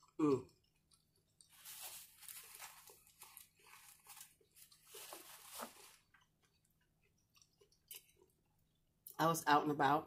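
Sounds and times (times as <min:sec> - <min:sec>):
person chewing food: 0:00.0 - 0:05.2, 0:05.8 - 0:09.0.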